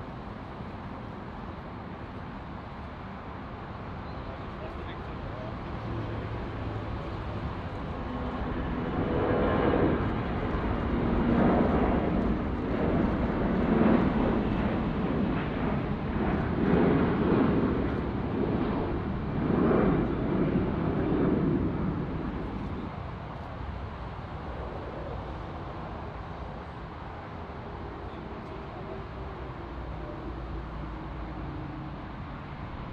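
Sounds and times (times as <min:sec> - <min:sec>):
jet airliner passing: 0:00.1 - 0:32.9.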